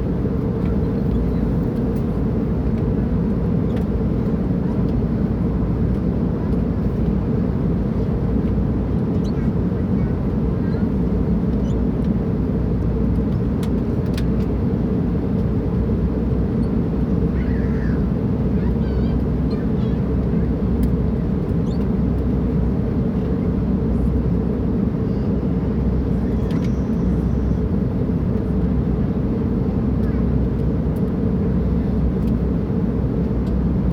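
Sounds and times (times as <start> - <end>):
airliner engines rumbling: 0.0 - 33.9.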